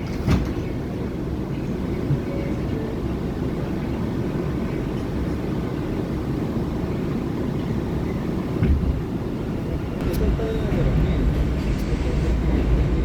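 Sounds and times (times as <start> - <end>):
subway car rumbling: 0.0 - 13.0.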